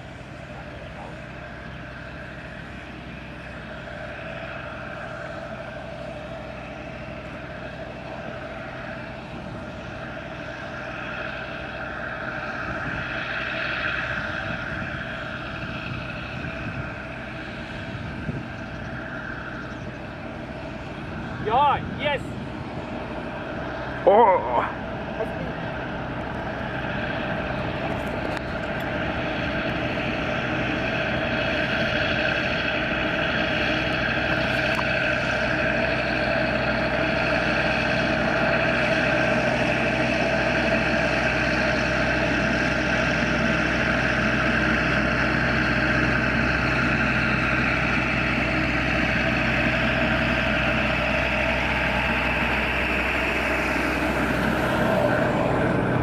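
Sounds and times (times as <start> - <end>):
diesel locomotive running: 0.0 - 56.0.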